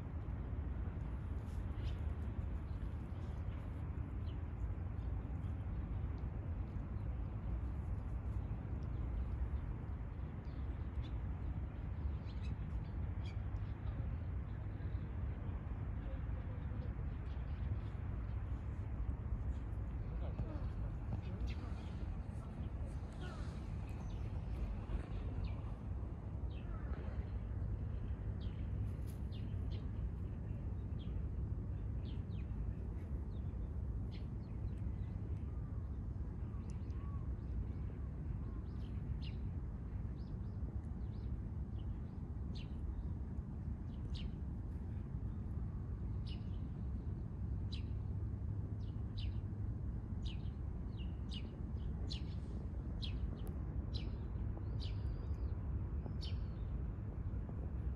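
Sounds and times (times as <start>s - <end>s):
low background rumble: 0.0s - 57.9s.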